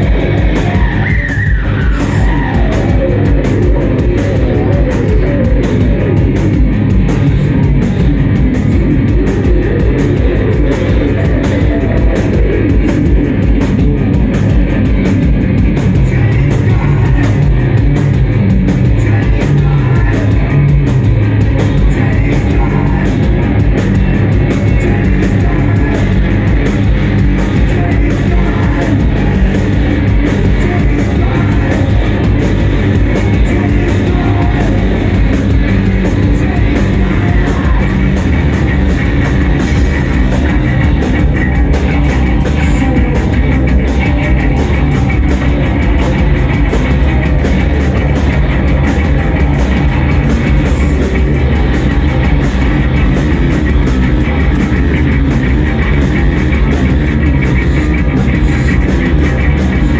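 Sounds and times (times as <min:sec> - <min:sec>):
drum kit driving beat: 0:00.0 - 0:59.9
live rock band playing: 0:00.0 - 0:59.9.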